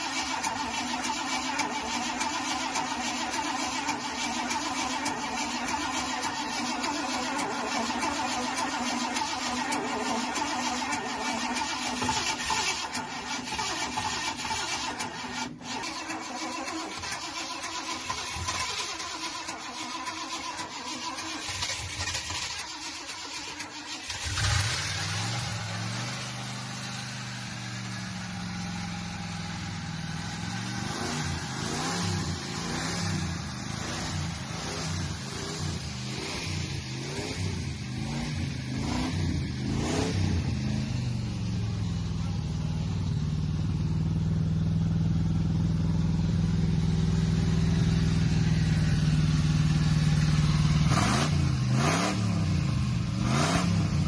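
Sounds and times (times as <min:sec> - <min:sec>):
truck engine starting and revving: 0:00.0 - 0:54.0.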